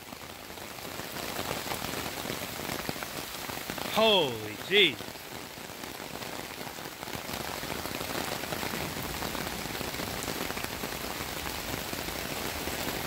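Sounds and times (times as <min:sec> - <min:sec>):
floodwater rushing: 0:00.0 - 0:13.0
heavy rain pouring: 0:00.0 - 0:13.0.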